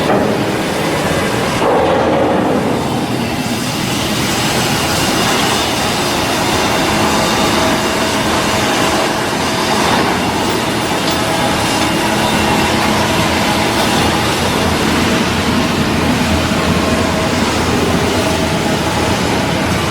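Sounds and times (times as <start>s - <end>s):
loud machinery noise: 0.0s - 19.9s.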